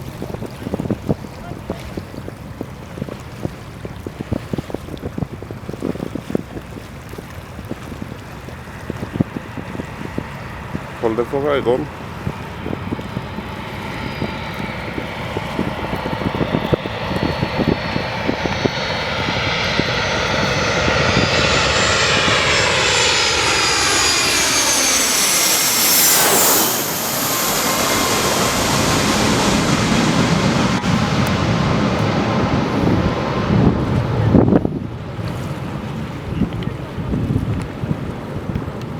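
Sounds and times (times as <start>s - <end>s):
airplane passing overhead: 0.0s - 38.9s.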